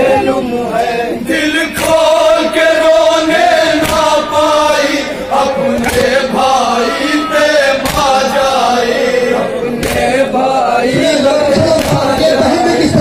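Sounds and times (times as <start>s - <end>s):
men singing a mourning lament: 0.0s - 13.0s.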